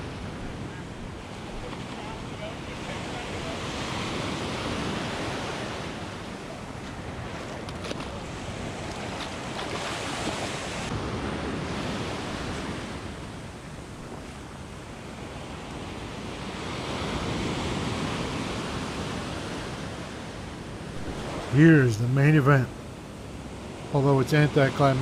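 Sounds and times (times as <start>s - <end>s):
wind on microphone: 0.0s - 23.9s
ocean surf breaking: 0.0s - 25.0s.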